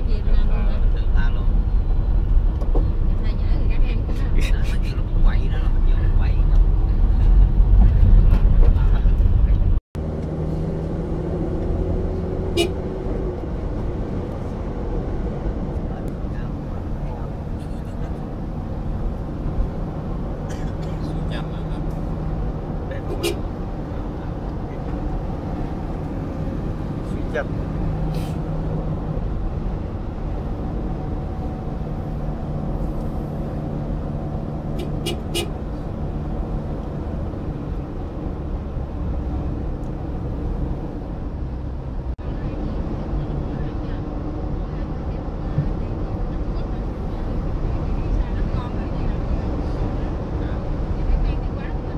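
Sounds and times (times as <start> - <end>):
vehicle road and engine noise: 0.0 - 51.9.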